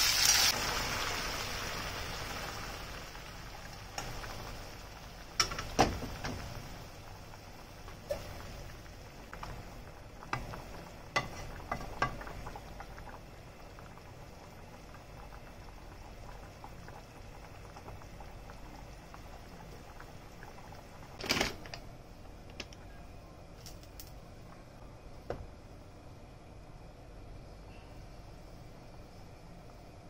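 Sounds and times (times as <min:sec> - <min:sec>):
broth boiling in a pan: 0:00.0 - 0:30.0.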